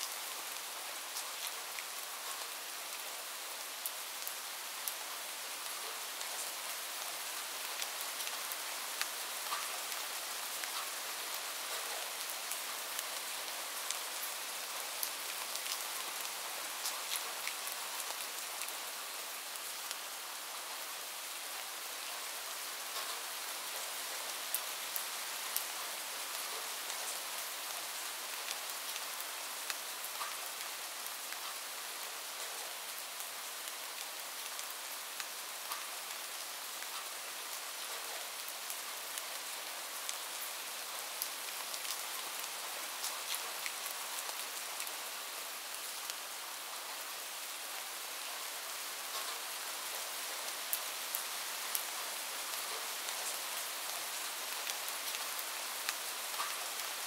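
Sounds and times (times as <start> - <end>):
light rain hiss: 0.0 - 57.0
raindrops ticking on a surface: 0.0 - 57.0.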